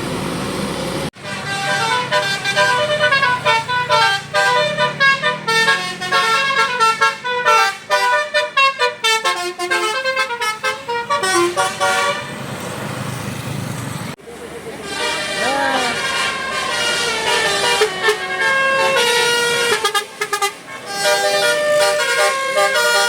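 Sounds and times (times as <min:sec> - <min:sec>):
musical bus horn melody: 0:01.2 - 0:12.4, 0:14.8 - 0:23.0.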